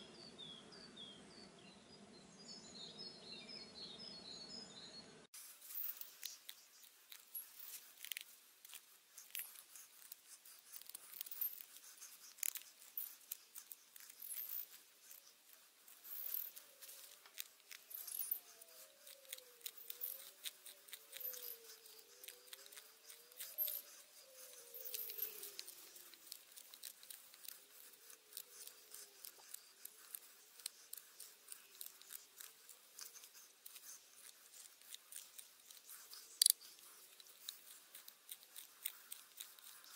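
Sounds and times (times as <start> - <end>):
knife shaving wood: 5.3 - 39.9.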